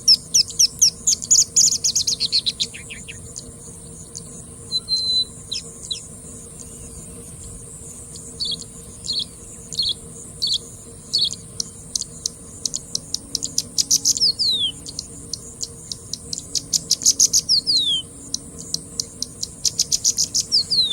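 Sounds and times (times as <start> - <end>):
bird singing: 0.0 - 20.9
steady high hiss: 0.0 - 20.9.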